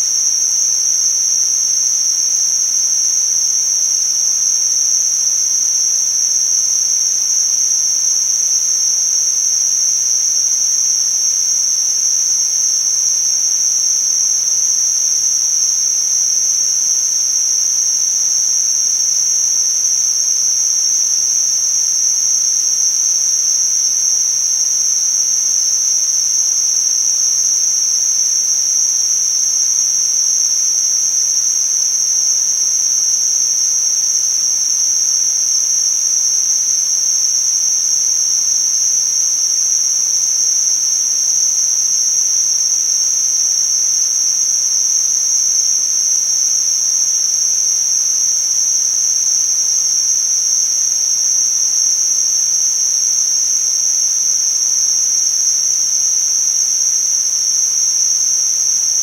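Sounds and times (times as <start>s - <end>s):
steady high-pitched hiss: 0.0s - 59.0s.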